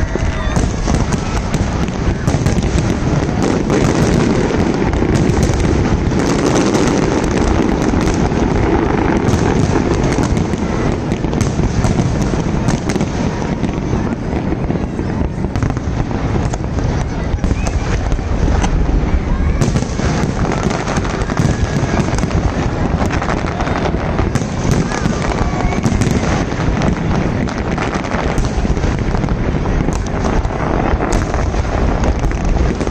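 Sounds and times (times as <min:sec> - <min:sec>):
fireworks crackling: 0:00.0 - 0:32.9
fireworks rumble of bursts: 0:00.0 - 0:32.9.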